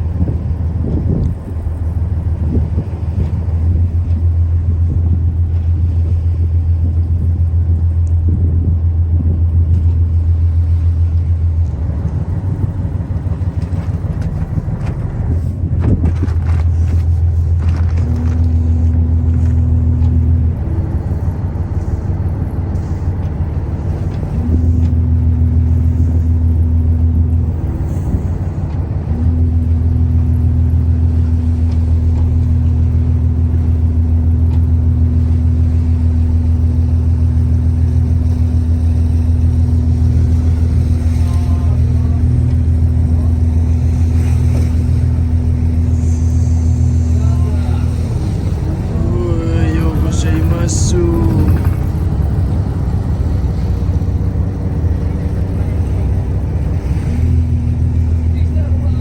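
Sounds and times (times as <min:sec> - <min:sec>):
higher steady hum: 0:00.0 - 0:59.0
ship engine low drone: 0:00.0 - 0:59.0.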